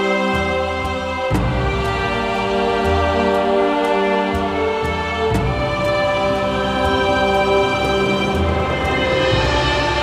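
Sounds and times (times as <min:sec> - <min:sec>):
background music sustained chords: 0:00.0 - 0:10.0.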